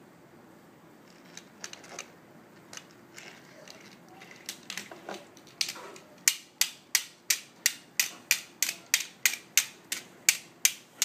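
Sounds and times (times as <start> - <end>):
toy cars clicking and clattering: 1.1 - 11.0.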